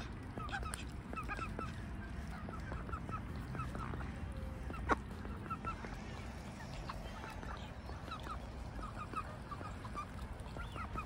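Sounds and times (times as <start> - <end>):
ducks rustling dry leaves: 0.0 - 11.0
waterbirds calling: 0.0 - 11.0.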